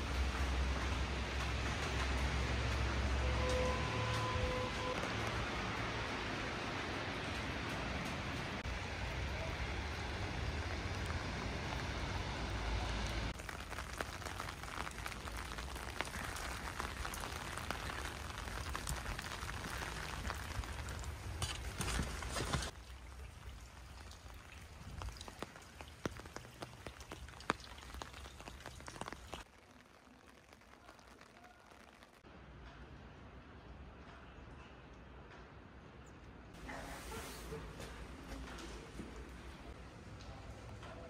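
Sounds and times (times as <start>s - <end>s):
rain drops tapping on hard surfaces: 0.0s - 32.9s, 33.9s - 41.0s.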